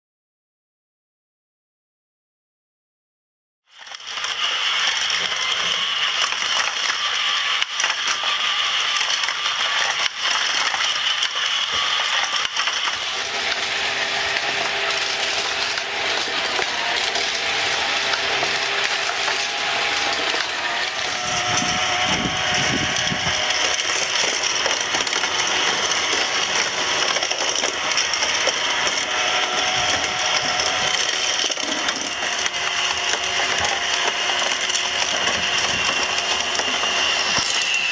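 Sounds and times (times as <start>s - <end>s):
toy cars clattering on plastic tracks: 3.7s - 37.9s
toy motors whirring and ratcheting: 3.7s - 37.9s.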